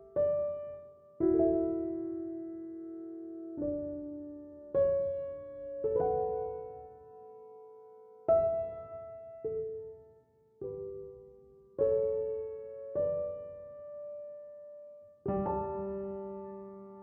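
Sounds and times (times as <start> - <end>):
slow solo piano chords: 0.0 - 17.0.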